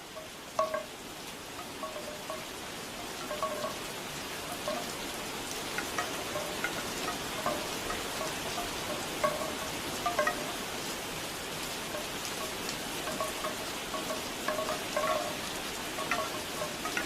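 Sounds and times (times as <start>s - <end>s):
bamboo wind chimes knocking: 0.0s - 1.0s, 1.6s - 17.0s
steady rain: 0.0s - 17.0s.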